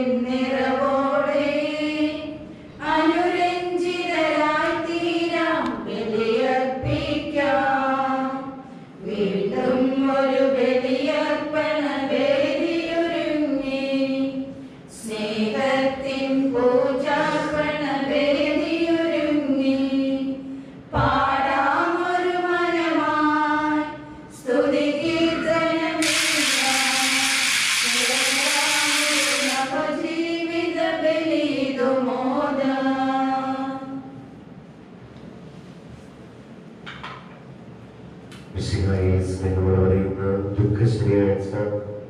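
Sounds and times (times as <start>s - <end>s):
voices singing chant: 0.0s - 34.1s.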